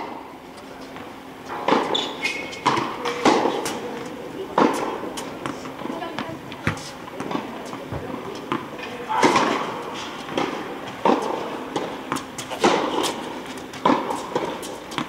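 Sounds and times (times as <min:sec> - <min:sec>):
tennis balls struck by rackets: 0:01.0 - 0:15.0.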